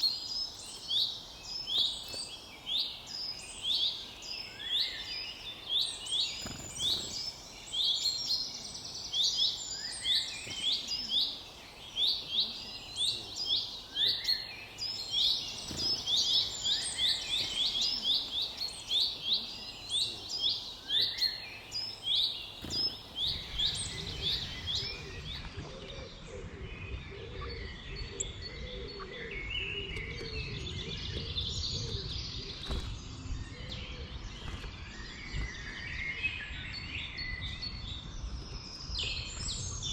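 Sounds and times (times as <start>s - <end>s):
woodland birds chirping: 0.0s - 39.9s.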